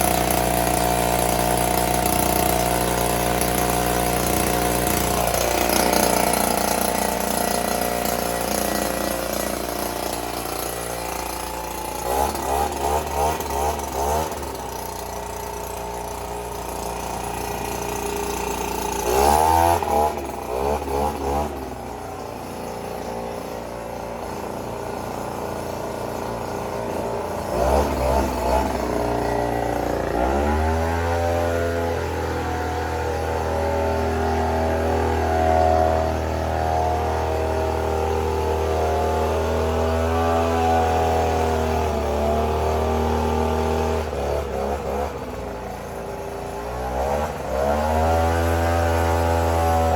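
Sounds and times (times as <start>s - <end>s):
small gasoline engine revving: 0.0s - 49.9s.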